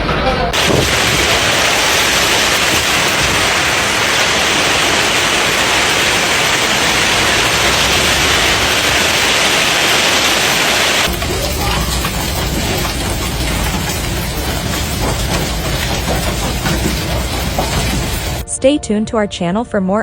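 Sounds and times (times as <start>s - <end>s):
hail and rain falling: 0.6s - 18.4s.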